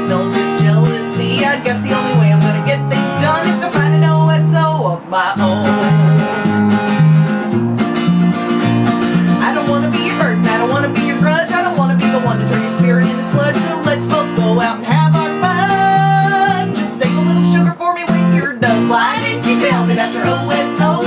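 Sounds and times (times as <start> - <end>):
women singing: 0.0 - 6.3, 9.4 - 21.0
acoustic guitar: 0.0 - 21.0
electric bass: 0.0 - 21.0.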